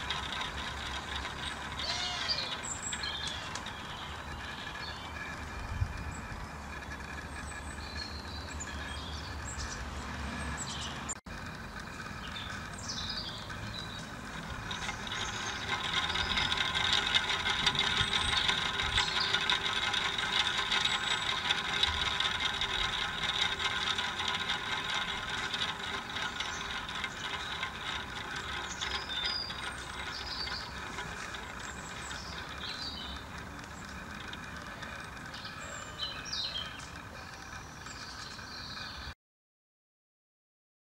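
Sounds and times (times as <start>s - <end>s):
paper pinwheel whirring: 0.0s - 39.2s.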